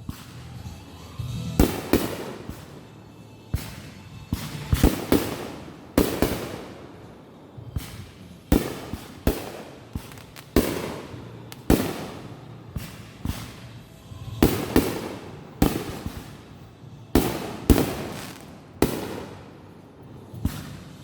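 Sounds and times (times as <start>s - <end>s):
fireworks banging and crackling: 0.0s - 21.0s.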